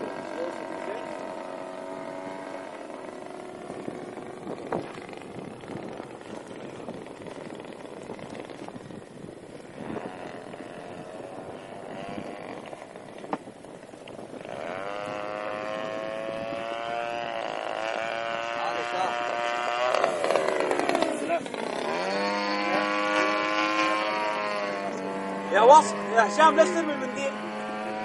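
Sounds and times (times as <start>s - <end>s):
model plane engine: 0.0s - 28.0s.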